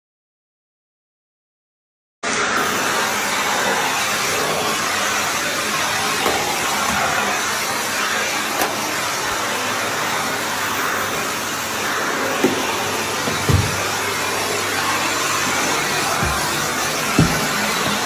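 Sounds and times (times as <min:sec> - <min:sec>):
vacuum cleaner on tile floor: 0:02.2 - 0:18.0.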